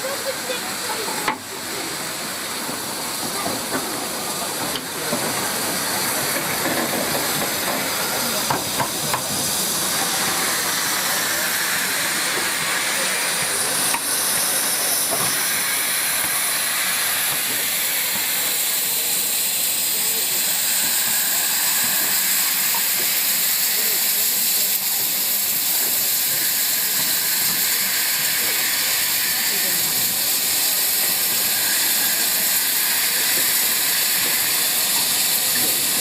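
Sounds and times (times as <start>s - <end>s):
steam hissing: 0.0s - 36.0s.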